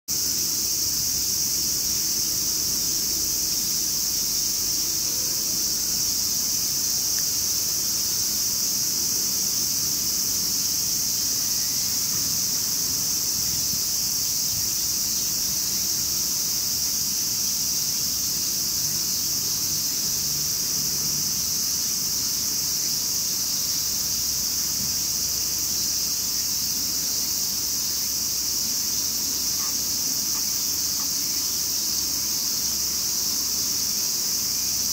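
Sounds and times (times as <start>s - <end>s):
insects buzzing: 0.1s - 34.9s.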